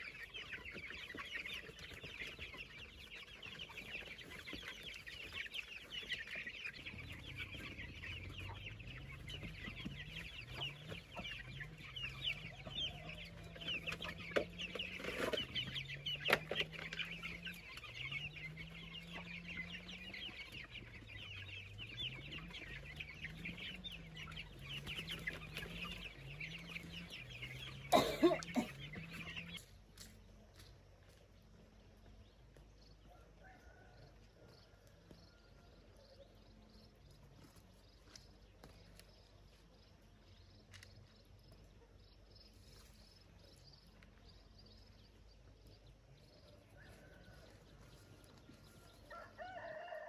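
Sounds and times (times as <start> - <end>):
chickens clucking and cheeping: 0.0 - 50.0.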